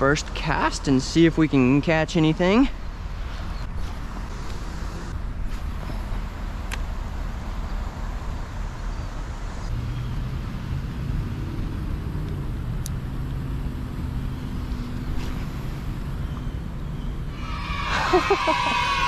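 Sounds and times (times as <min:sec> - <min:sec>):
low engine hum: 0:00.0 - 0:17.4
traffic rumble: 0:00.0 - 0:19.0.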